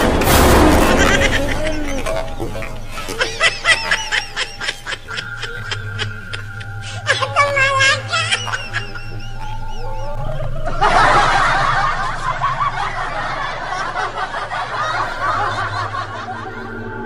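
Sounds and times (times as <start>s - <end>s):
high-pitched cackling female laugh: 0.7s - 17.0s.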